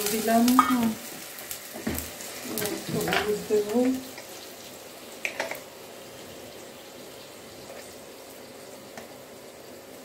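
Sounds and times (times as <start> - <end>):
gravy simmering in a wok: 0.0 - 10.0.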